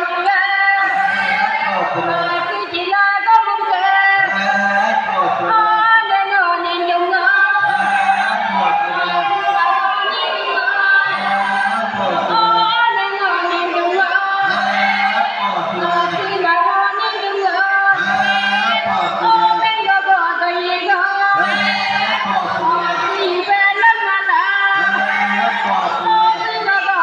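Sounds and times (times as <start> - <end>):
woman singing: 0.0 - 4.3, 5.4 - 7.8, 8.9 - 27.0.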